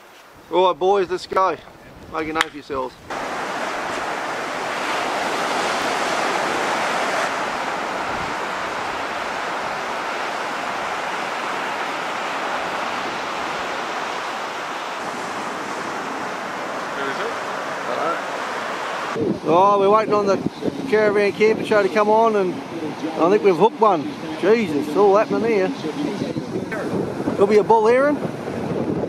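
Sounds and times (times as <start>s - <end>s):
wind blowing: 0.0s - 29.0s
surf breaking on beach: 3.0s - 29.0s.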